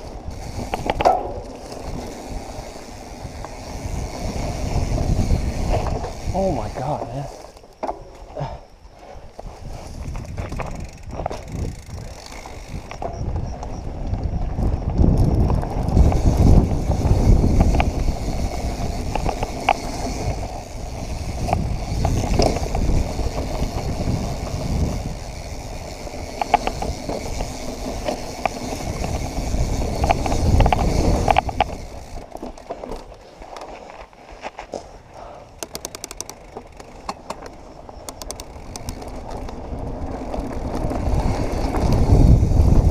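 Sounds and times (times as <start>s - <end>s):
bike clicks and rattles: 0.0s - 42.9s
bike tyres rumbling over rocks: 0.0s - 42.9s.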